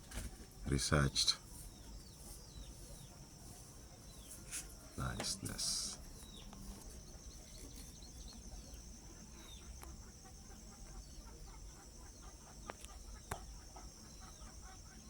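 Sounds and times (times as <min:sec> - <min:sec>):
chickens clucking: 0:00.0 - 0:15.0
small birds chirping: 0:00.0 - 0:15.0.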